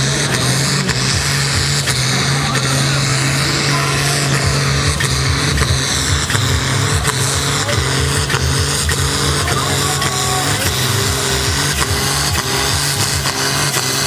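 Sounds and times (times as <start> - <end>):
tractor diesel engine at high revs: 0.0 - 14.0.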